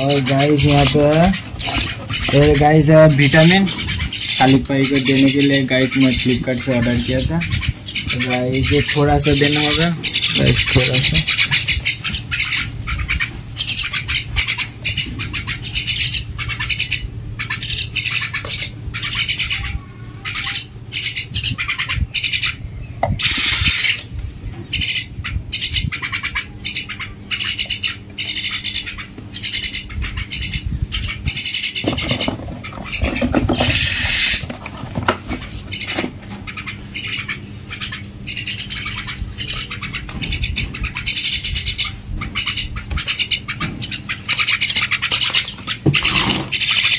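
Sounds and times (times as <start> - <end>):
myna squawking calls: 0.0 - 34.6, 35.3 - 46.9.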